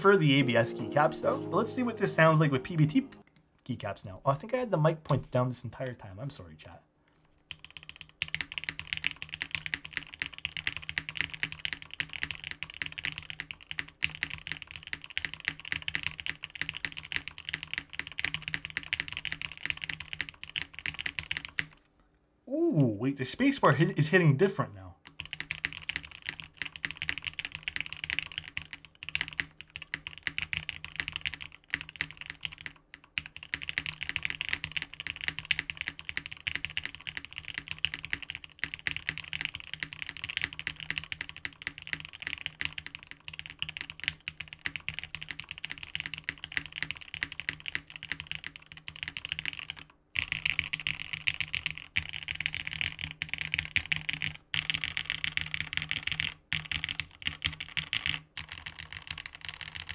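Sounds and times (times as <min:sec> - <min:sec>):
typing on mechanical keyboard: 0:07.5 - 0:21.8, 0:25.0 - 0:59.9.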